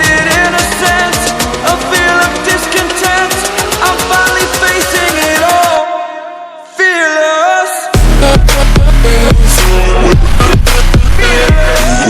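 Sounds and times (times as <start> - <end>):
electronic music with fast beat: 0.0 - 5.9, 8.0 - 12.0.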